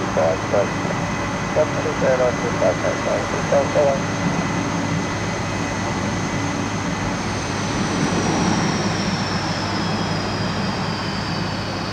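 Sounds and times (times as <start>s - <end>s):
jet engines roaring and whining: 0.0s - 11.9s.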